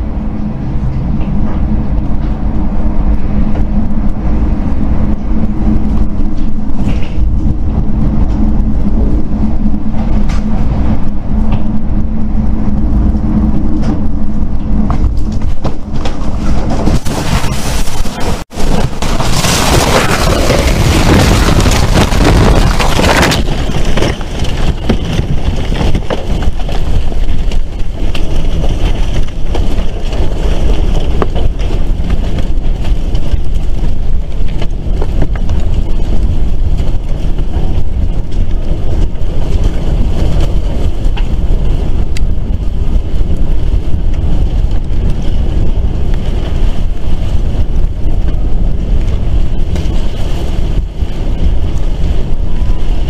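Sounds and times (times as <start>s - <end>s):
tornado winds roaring: 0.0s - 53.0s
wind buffeting microphone: 0.0s - 53.0s.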